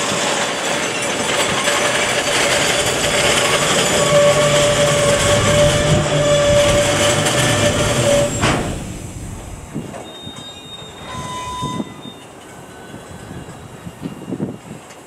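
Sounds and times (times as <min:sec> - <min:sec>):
high wheel squeal: 0:00.0 - 0:14.5
freight train rolling on rails: 0:00.0 - 0:15.0.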